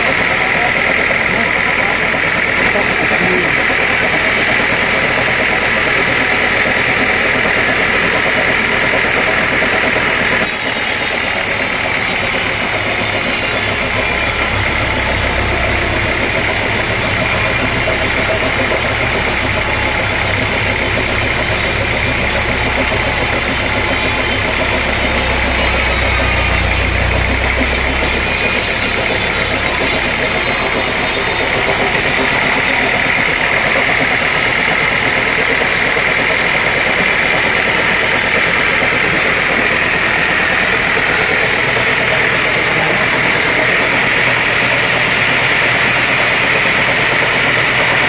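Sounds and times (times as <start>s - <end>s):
deep engine hum: 0.0s - 10.5s, 11.2s - 48.0s
sawmill machinery whining: 0.0s - 48.0s.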